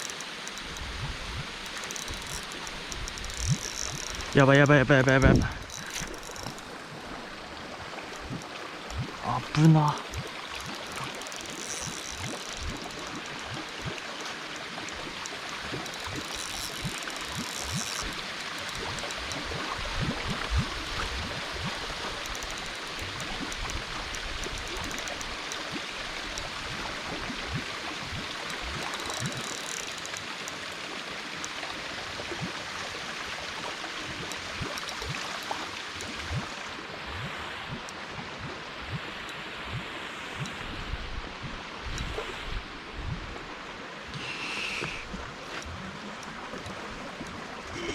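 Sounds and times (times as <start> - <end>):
flowing water: 0.0 - 47.9.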